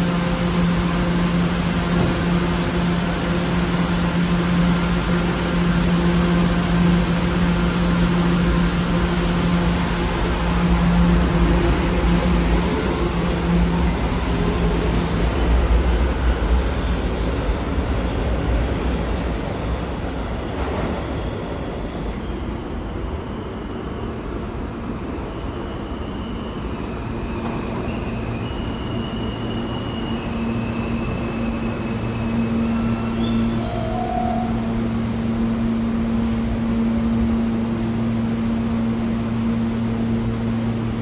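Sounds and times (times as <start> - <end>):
subway train rumble: 0.0 - 41.0
train hums and high tones: 0.0 - 41.0.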